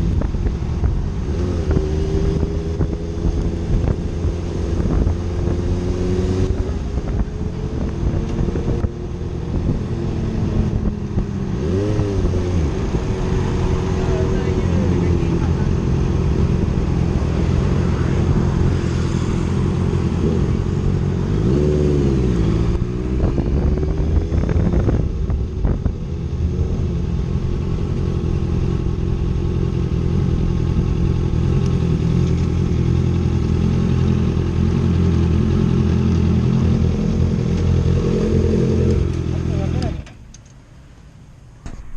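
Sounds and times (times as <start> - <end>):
motorcycle engine running: 0.0 - 40.1.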